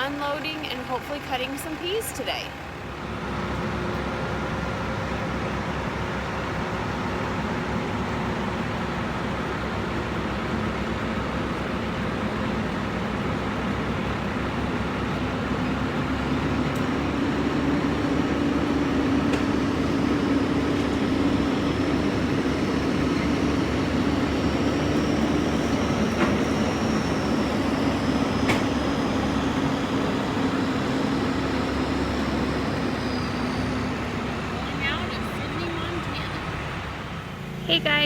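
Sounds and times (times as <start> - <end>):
vehicle engine and road noise: 0.0 - 38.0.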